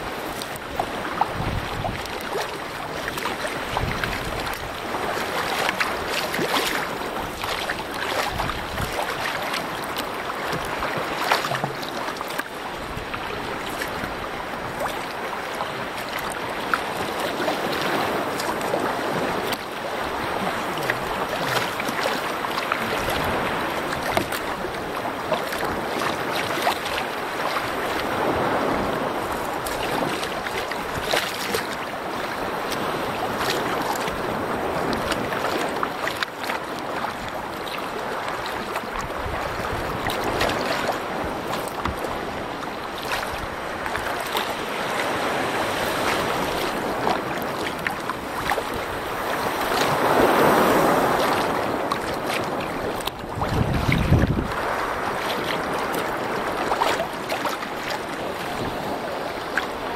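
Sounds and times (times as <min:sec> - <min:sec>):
wind on the microphone: 0:00.0 - 0:36.0, 0:36.7 - 0:59.9
water splashing along a canoe: 0:00.0 - 0:59.9.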